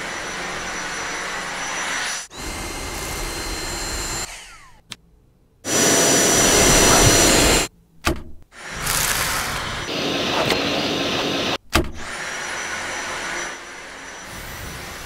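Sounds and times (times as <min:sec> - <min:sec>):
handheld vacuum running: 0:00.0 - 0:04.7, 0:05.7 - 0:07.7, 0:08.6 - 0:15.0.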